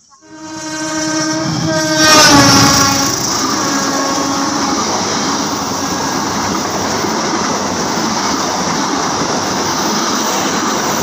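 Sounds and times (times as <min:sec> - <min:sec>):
train rushing by: 0:00.0 - 0:11.0.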